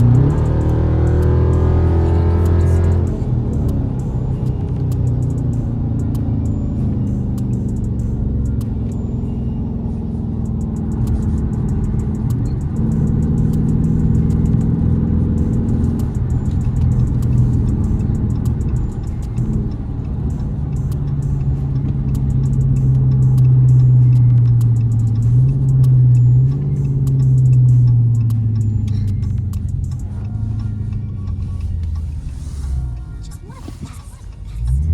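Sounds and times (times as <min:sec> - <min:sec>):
car engine: 0:00.0 - 0:34.9
music playing: 0:00.0 - 0:34.9
road noise: 0:00.0 - 0:34.9.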